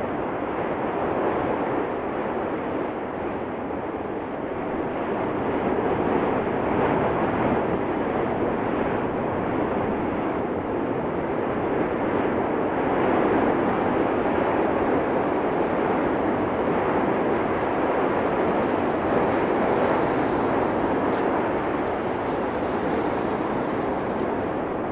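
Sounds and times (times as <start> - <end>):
volcanic eruption roar: 0.0 - 24.9.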